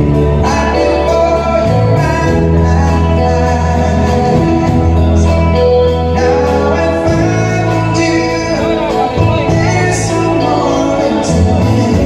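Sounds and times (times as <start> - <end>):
bass guitar: 0.0 - 12.0
electric guitar: 0.0 - 12.0
person singing: 0.0 - 12.0.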